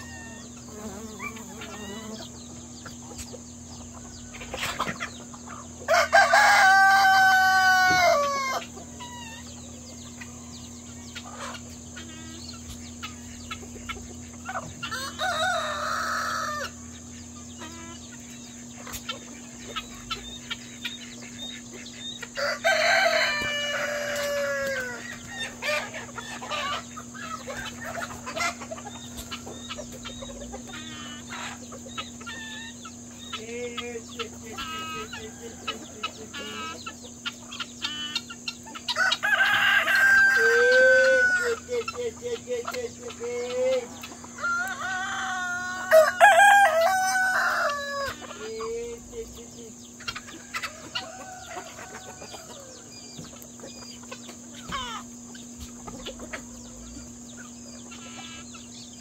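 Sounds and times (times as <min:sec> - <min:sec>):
chickens clucking: 0:00.0 - 0:59.0
roosters crowing: 0:00.0 - 0:59.0.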